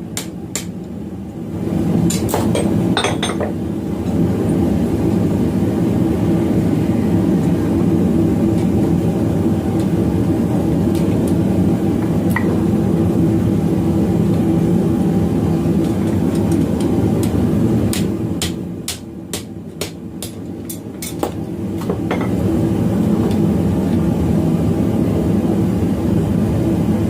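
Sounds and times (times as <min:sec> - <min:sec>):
forge roaring with low hum: 0:00.0 - 0:27.0.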